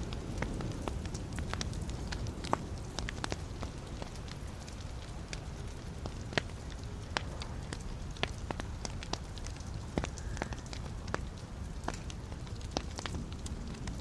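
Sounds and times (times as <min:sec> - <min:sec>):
crackles and pops of burning logs: 0:00.0 - 0:14.0
low rumble of flames: 0:00.0 - 0:14.0.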